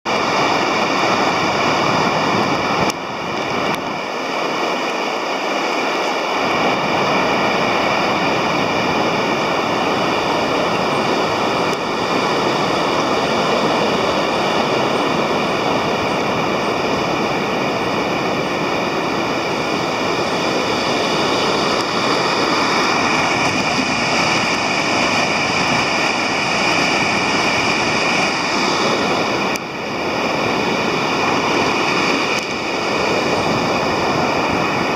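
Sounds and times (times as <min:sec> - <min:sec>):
water rushing from dam: 0:00.1 - 0:34.9.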